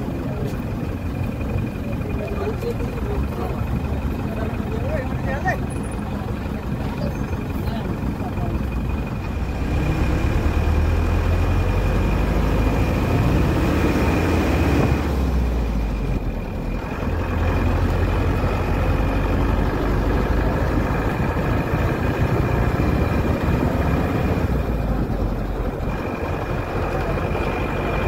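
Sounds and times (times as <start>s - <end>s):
bus engine rumble: 0.0s - 28.0s.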